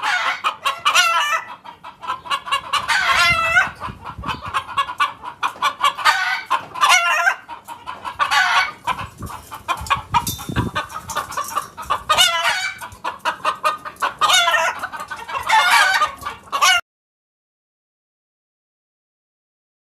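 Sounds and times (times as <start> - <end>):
chickens clucking: 0.0 - 16.8
wavering chicken calls: 0.0 - 16.8.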